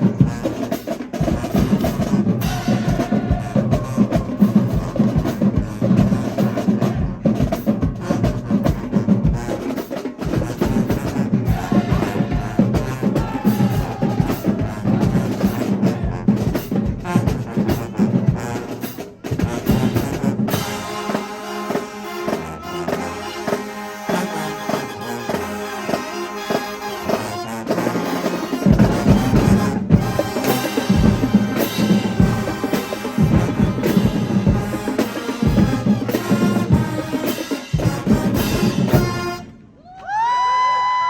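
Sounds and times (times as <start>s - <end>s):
marching band brass: 0.0s - 39.8s
drumline: 0.0s - 40.0s.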